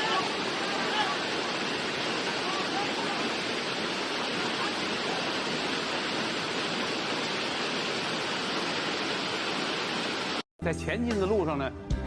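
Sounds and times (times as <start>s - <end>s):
floodwater rushing: 0.0s - 10.4s.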